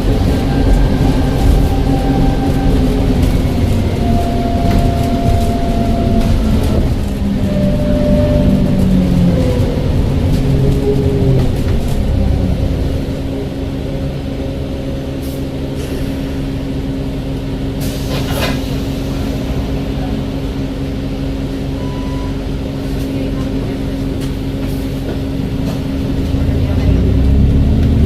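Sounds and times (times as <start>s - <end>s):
bus drivetrain hum and whine: 0.0s - 28.0s.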